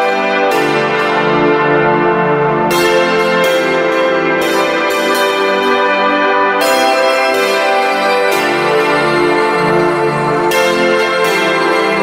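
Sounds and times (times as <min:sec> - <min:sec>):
bell-like and organ-like music: 0:00.0 - 0:12.0.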